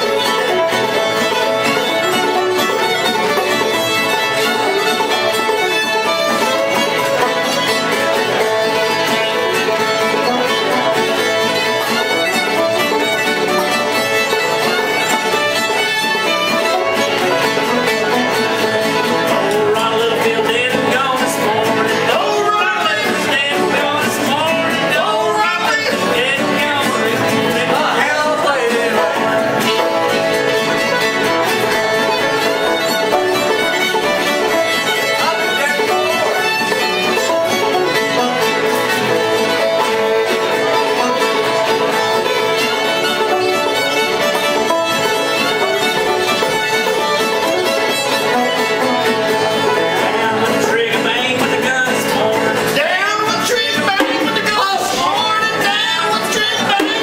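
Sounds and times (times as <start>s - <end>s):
bowed fiddle: 0.0s - 57.0s
picked banjo: 0.0s - 57.0s
strummed acoustic guitar: 0.0s - 57.0s.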